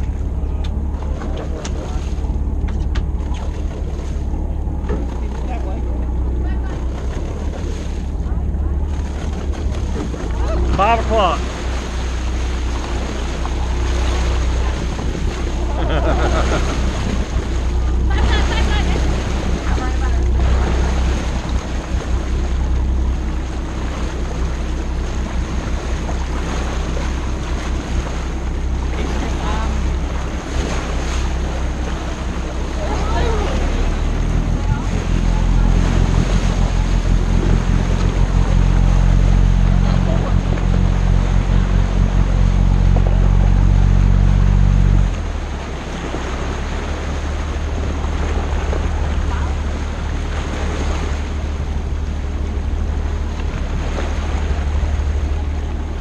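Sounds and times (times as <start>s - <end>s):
boat engine droning: 0.0s - 56.0s
water rushing along hull: 0.0s - 56.0s.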